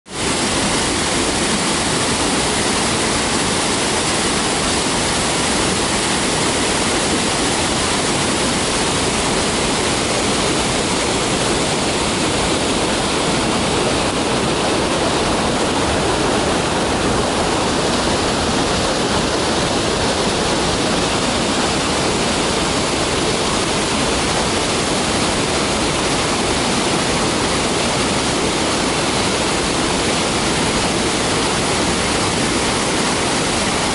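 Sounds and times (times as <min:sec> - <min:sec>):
water gushing and crashing: 0:00.1 - 0:33.9.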